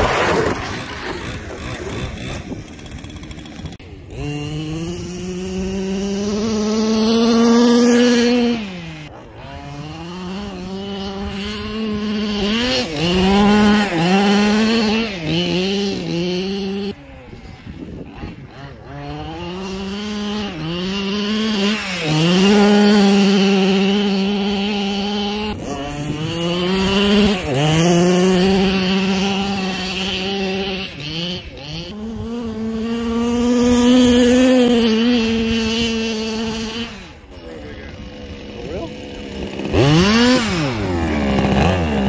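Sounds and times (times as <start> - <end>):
small two-stroke engine revving: 0.0 - 42.0.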